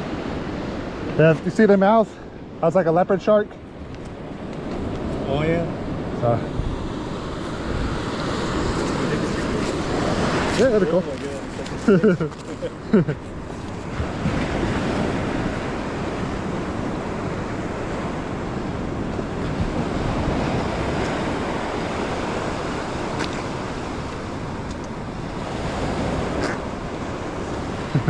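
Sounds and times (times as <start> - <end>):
surf washing on beach: 0.0 - 28.0
wind buffeting microphone: 3.7 - 28.0.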